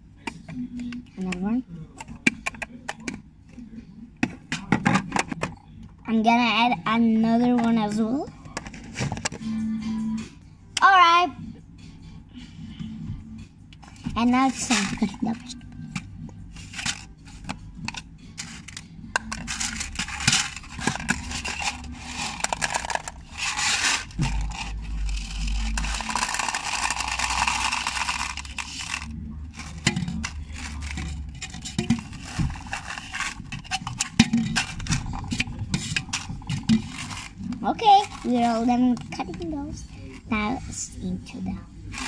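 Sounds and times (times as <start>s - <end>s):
toy kitchen things scraping: 0.2s - 3.2s, 4.2s - 9.6s, 13.8s - 42.0s.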